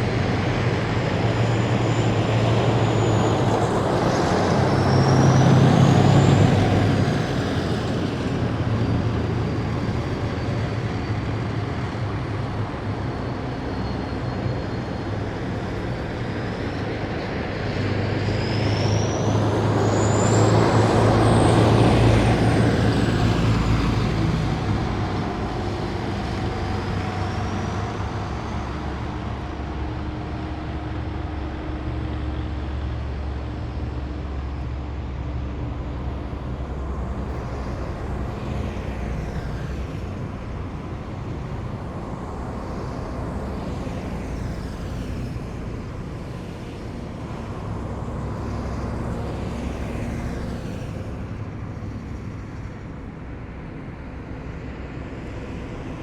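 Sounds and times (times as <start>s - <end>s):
heavy vehicles engines droning: 0.0s - 56.0s.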